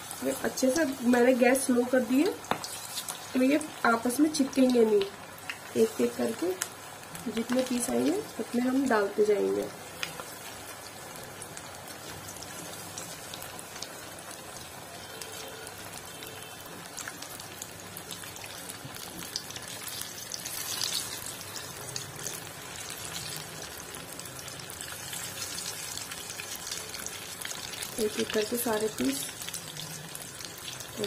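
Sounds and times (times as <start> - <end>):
chicken deep-frying in oil: 0.0 - 31.0.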